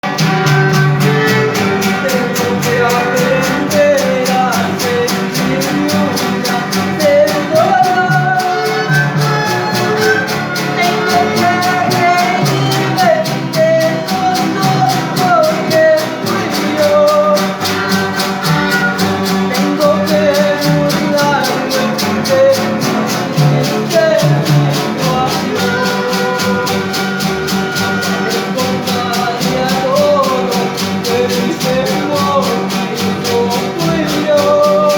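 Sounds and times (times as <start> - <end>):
latin band playing: 0.0 - 34.9.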